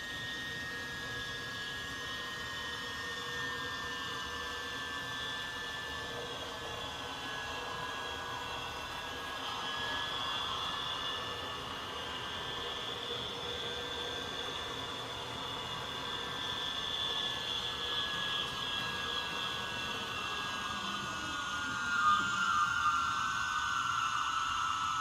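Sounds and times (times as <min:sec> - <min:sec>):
model locomotive turbine whine: 0:00.0 - 0:25.0.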